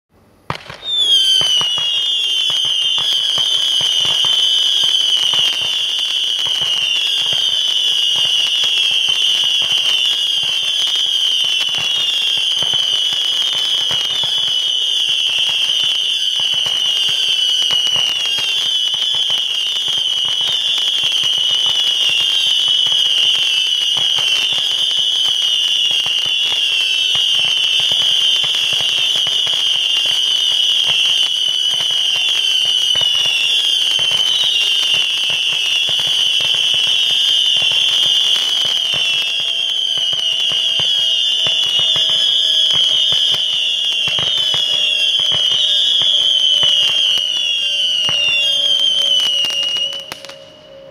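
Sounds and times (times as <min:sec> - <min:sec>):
firework crackling: 0:00.5 - 0:50.6
firework shrill whistle: 0:00.5 - 0:50.9.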